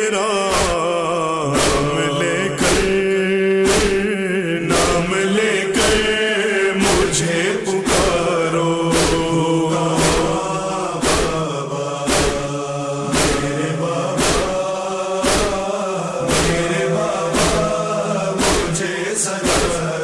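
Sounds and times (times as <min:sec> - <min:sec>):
wordless vocal chanting: 0:00.0 - 0:20.0
sharp percussive beat: 0:00.5 - 0:06.2, 0:06.8 - 0:20.0.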